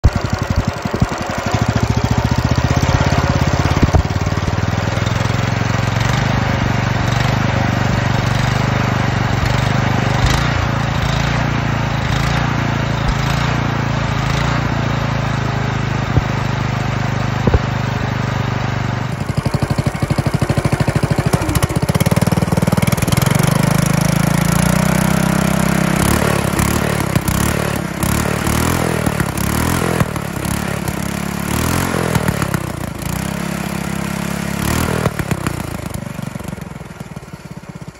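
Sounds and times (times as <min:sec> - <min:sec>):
engine revving: 0:00.0 - 0:37.3
small engine running: 0:00.0 - 0:37.9.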